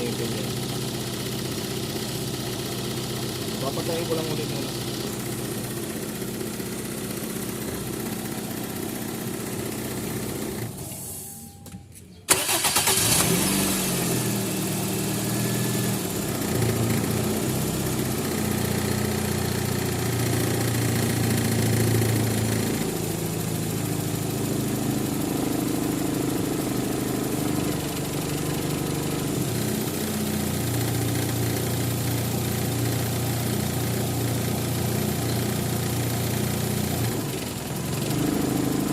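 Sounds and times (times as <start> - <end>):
car engine idling: 0.0 - 11.1, 12.3 - 38.9
car engine starting: 0.0 - 11.3, 12.3 - 38.9.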